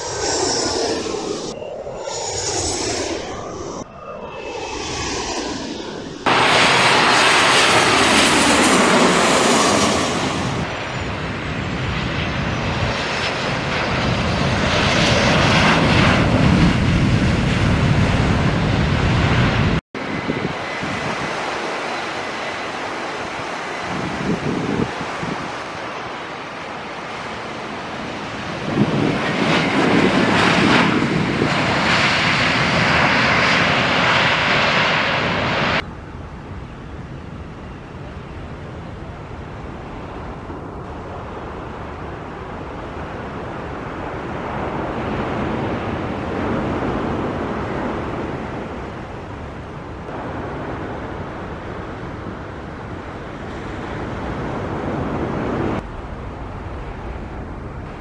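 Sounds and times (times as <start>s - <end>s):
wind on microphone: 0.0s - 22.6s, 23.2s - 26.4s, 27.1s - 58.0s
jet engine roar: 0.0s - 58.0s.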